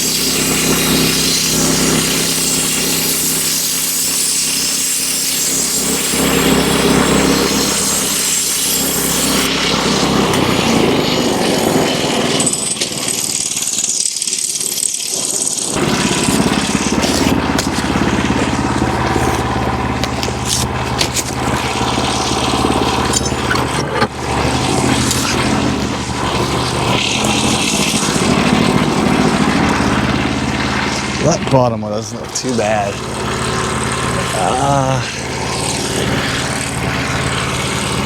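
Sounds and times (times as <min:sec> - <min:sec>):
sawmill cutting wood: 0:00.0 - 0:38.0.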